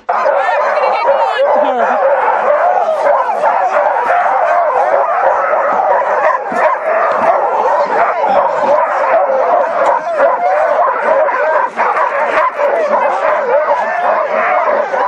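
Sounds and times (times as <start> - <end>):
sled dogs barking together: 0.0 - 15.0.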